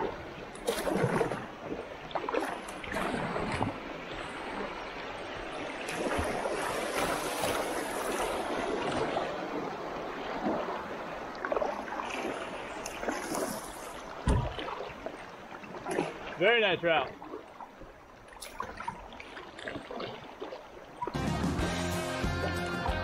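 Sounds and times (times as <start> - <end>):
river water rushing: 0.0 - 23.0
water splashing against kayak hull: 0.0 - 23.0.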